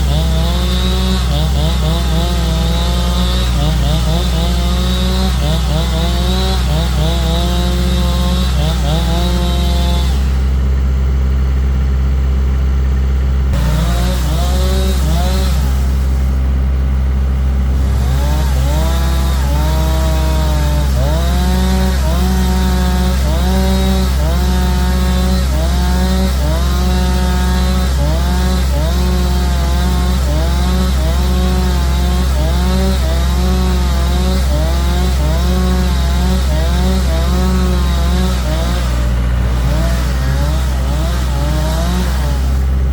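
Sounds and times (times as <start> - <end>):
engine running under load: 0.0 - 42.9.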